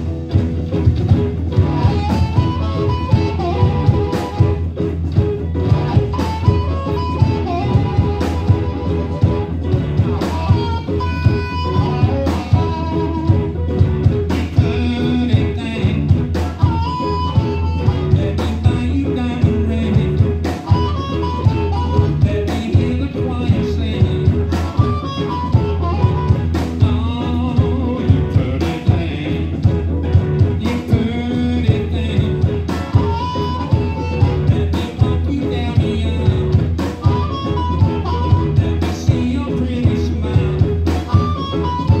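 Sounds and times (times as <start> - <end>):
live band playing blues rock: 0.0 - 42.0.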